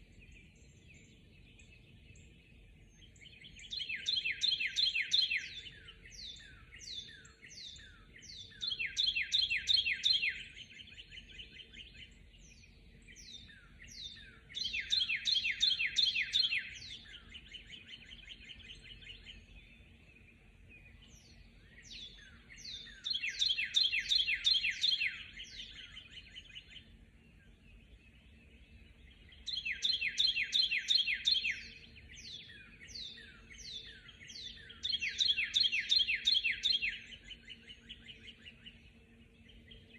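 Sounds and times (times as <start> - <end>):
bird chirps: 0.0 - 39.9
songbird down-slurred song: 0.0 - 39.9.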